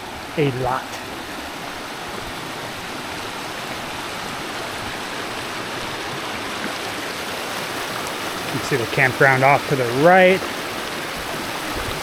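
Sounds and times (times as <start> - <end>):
forest stream rushing: 0.0 - 12.0.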